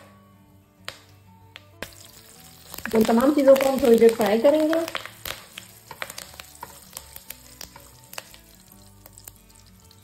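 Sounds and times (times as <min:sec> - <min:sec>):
seeds popping and crackling: 0:00.9 - 0:10.0
spices sizzling in hot oil: 0:01.8 - 0:10.0.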